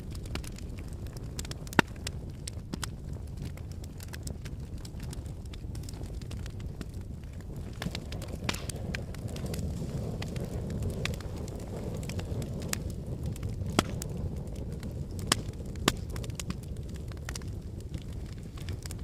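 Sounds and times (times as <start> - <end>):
logs burning in fireplace: 0.0 - 19.0.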